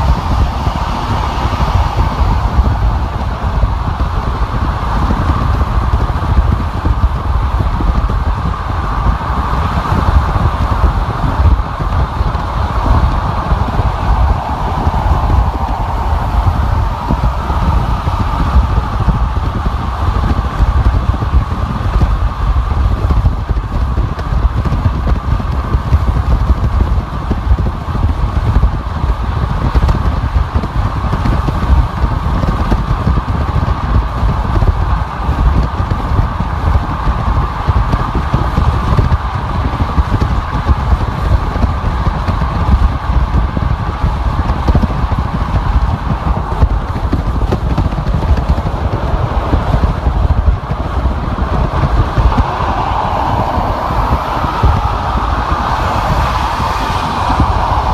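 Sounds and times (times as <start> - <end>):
car road noise rumble: 0.0 - 57.9
tyre and wind hiss: 0.0 - 57.9.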